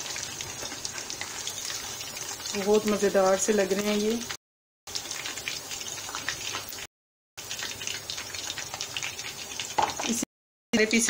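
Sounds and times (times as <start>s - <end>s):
oil sizzling with pops: 0.0s - 11.0s.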